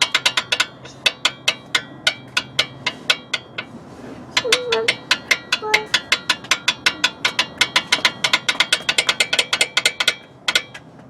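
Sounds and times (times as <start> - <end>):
metallic clicking of suspension link: 0.0 - 11.0.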